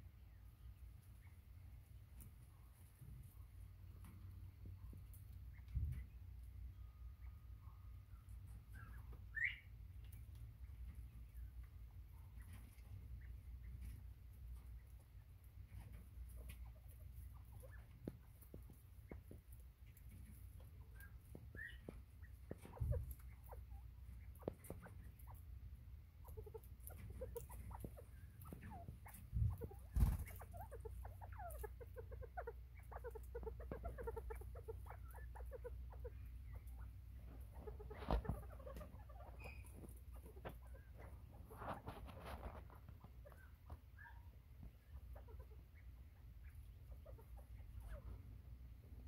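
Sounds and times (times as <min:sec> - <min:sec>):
quail clucking and chirping: 0:00.0 - 0:49.0.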